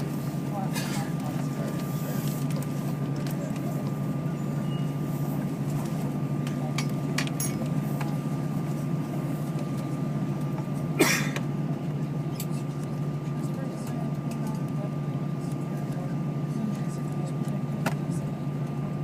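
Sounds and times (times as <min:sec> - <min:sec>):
airplane cabin hum: 0:00.0 - 0:19.0.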